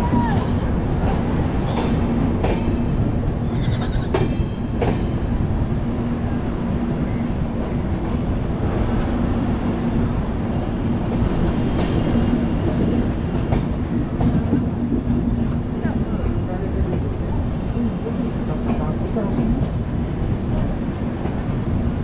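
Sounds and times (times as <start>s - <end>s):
train rumbling along track: 0.0s - 22.0s.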